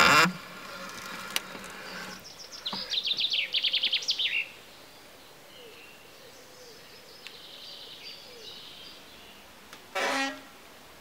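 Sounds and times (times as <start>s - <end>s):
songbird singing: 0.6s - 10.6s
faint bird calls: 0.7s - 10.5s.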